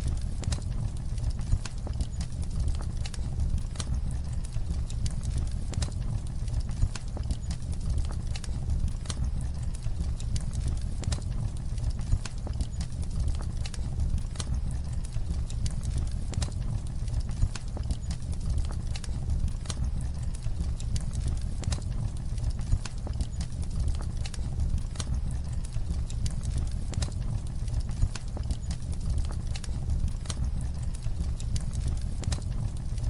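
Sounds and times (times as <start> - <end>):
fire crackling in a fireplace: 0.0 - 33.0.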